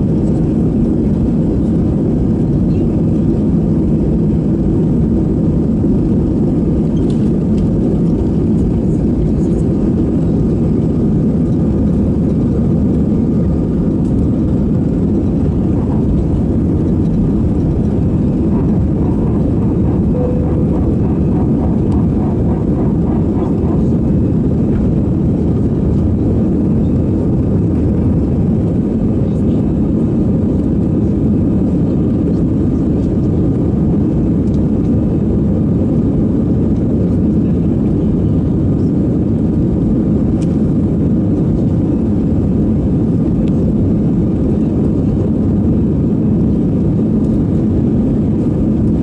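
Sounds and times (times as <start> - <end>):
jet engines rumbling: 0.0 - 49.0.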